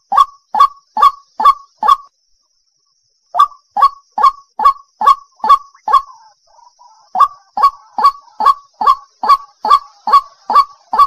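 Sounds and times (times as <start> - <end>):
bird repeated call notes: 0.0 - 2.2, 3.3 - 11.0.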